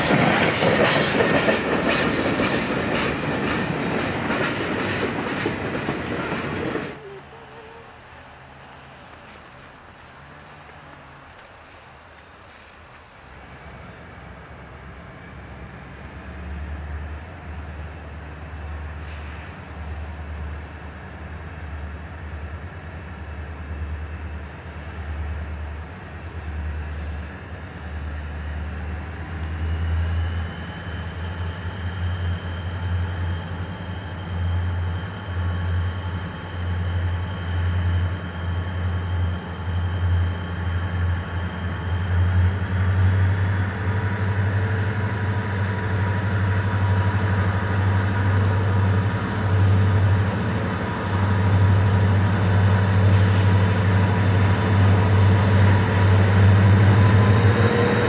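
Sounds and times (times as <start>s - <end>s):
diesel locomotive engines throbbing: 0.0s - 58.0s.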